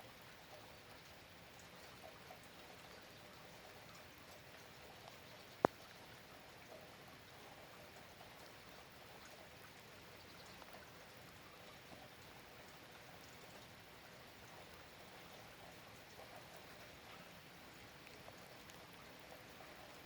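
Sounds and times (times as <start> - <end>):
light rain pattering: 0.0 - 20.0.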